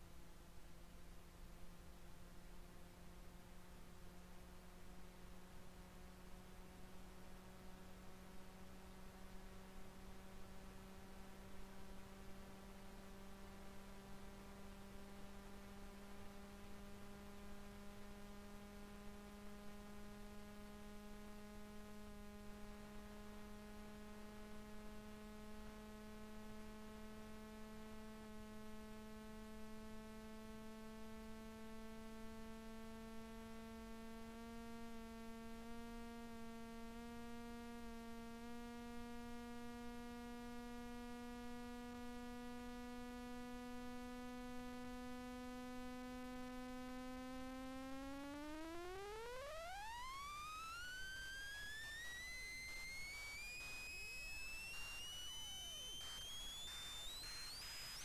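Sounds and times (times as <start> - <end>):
faint rising hum: 0.0 - 58.0.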